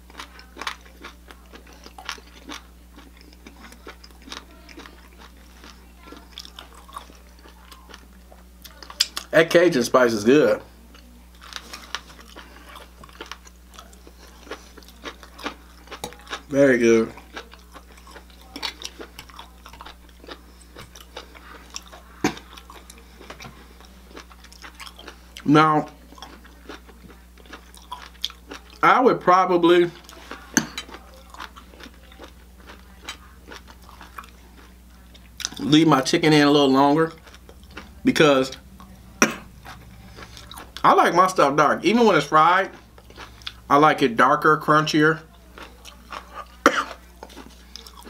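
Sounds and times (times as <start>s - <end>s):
person chewing food: 0.0s - 48.0s
steady low hum: 0.0s - 48.0s.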